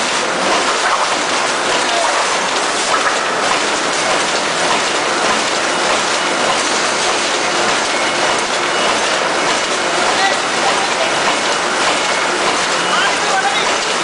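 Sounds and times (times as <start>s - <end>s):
dense mechanical clatter: 0.0s - 14.0s.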